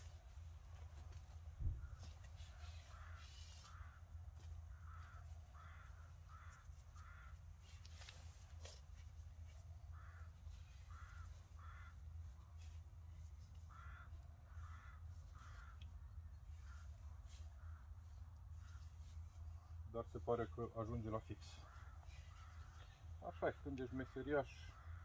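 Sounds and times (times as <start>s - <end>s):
crows cawing: 0.0s - 25.0s
low steady hum: 0.0s - 25.0s.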